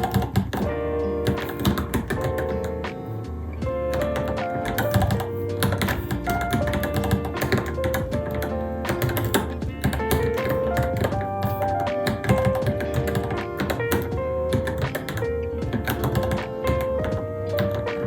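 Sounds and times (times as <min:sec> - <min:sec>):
mechanical keyboard typing: 0:00.0 - 0:02.9, 0:03.9 - 0:18.0
background music with melody: 0:00.0 - 0:18.0.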